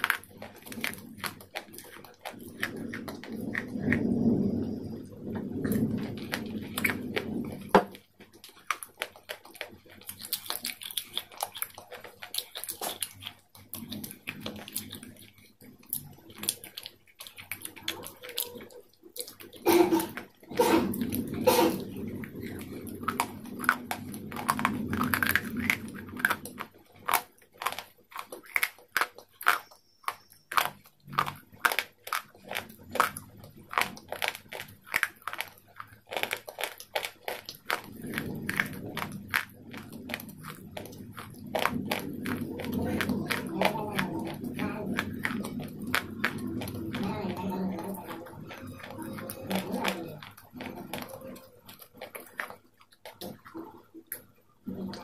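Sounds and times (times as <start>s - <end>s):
person chewing crisp food: 0.0s - 55.0s.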